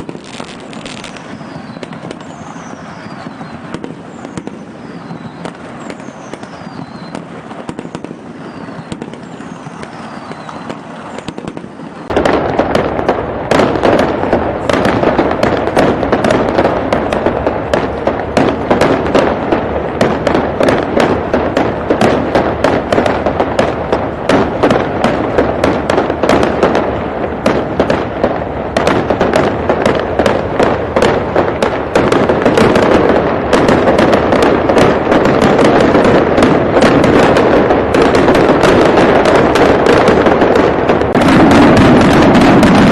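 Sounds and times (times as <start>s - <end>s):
fireworks bangs: 0.0s - 42.9s
fireworks crackling: 0.0s - 42.9s
fireworks whistling: 0.0s - 42.9s.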